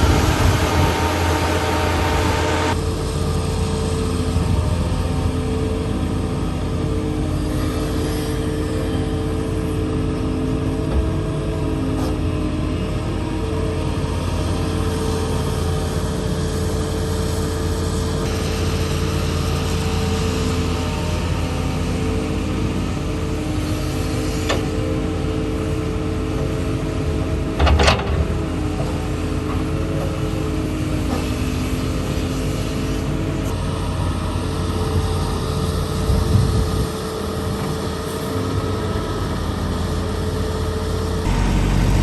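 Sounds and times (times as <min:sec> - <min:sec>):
diesel engines running: 0:00.0 - 0:42.0.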